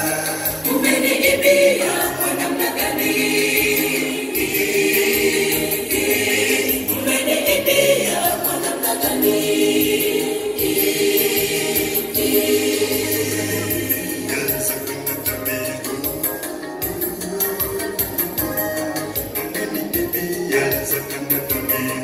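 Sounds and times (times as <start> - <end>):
congregation singing a hymn: 0.0 - 22.0.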